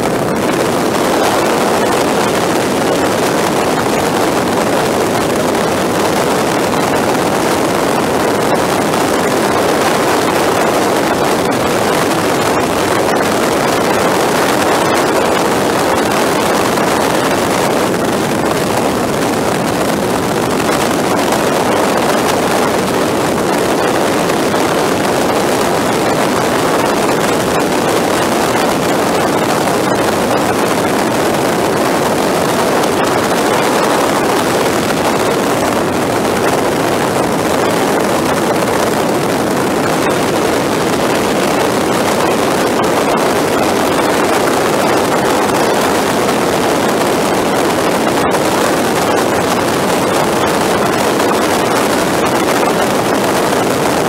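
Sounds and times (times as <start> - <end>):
wind rushing: 0.0 - 54.0.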